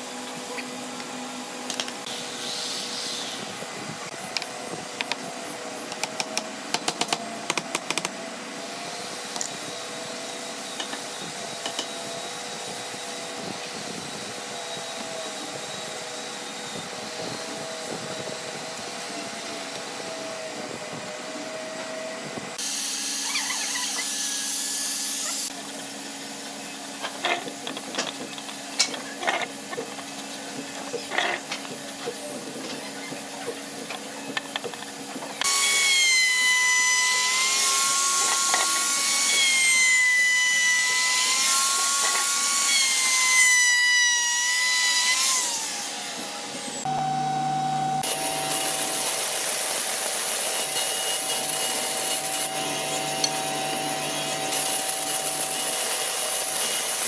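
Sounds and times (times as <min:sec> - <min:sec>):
small power tool motor: 0:00.1 - 0:57.0.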